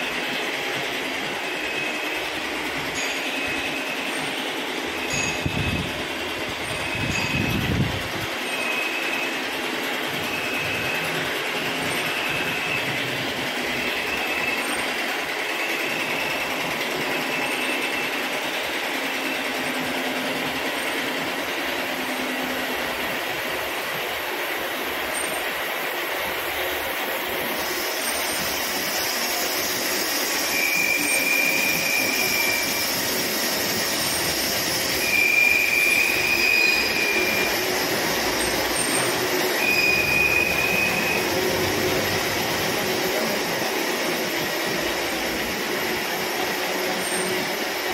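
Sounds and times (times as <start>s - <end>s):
high-pitched cutter whine: 0.0s - 47.9s
milling machine cutting steel: 0.0s - 47.9s.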